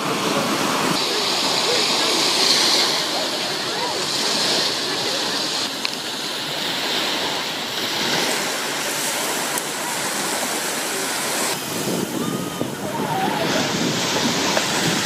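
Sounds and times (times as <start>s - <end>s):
small waves breaking on shore: 0.0s - 15.0s.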